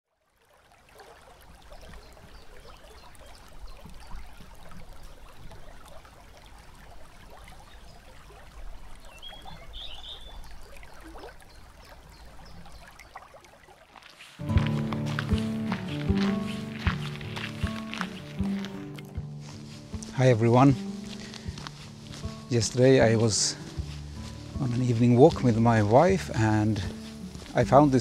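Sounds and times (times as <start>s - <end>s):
creek babbling over rocks: 0.1s - 28.0s.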